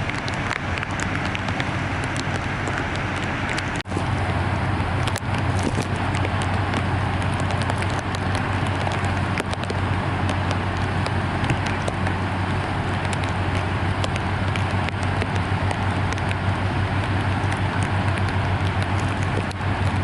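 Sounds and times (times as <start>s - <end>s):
crackles: 0.0s - 20.0s
floodwater rushing: 0.0s - 20.0s
low rumble: 0.0s - 20.0s.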